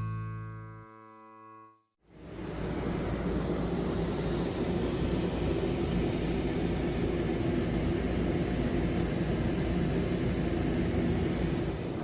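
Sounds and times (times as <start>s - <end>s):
steady mechanical hum: 2.1s - 12.0s.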